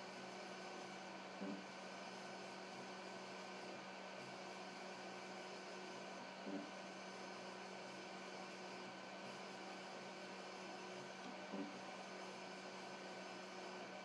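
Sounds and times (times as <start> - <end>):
printer hum with steady tones: 0.0 - 14.0.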